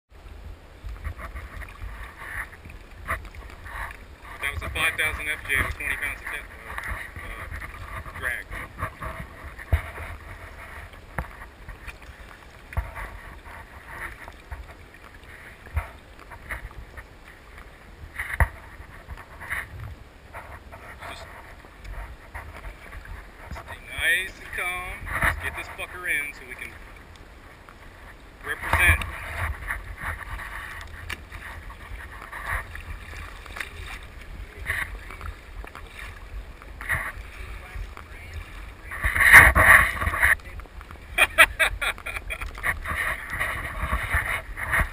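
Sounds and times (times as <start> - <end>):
water lapping against kayak hull: 0.1 - 44.9
water splashes: 0.1 - 44.9
wind on microphone: 0.2 - 44.9.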